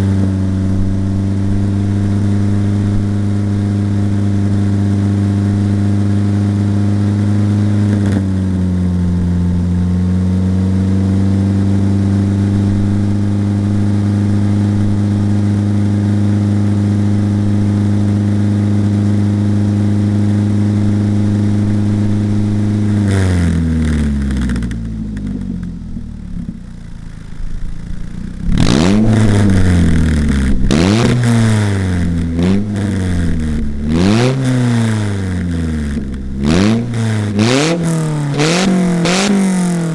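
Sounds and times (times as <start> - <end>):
engine revving through exhaust: 0.0 - 39.9.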